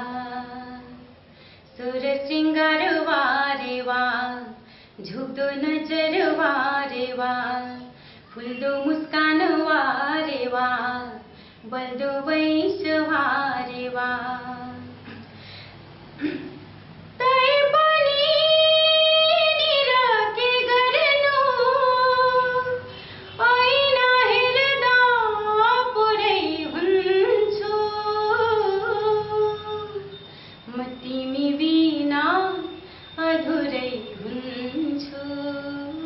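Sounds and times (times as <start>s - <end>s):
woman singing: 0.0s - 1.1s, 1.8s - 15.0s, 17.2s - 36.0s.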